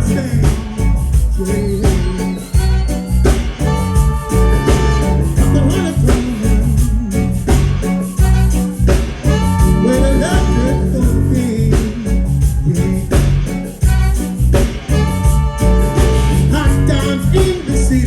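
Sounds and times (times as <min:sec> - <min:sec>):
heavy bass line: 0:00.0 - 0:18.0
live reggae band playing: 0:00.0 - 0:18.0.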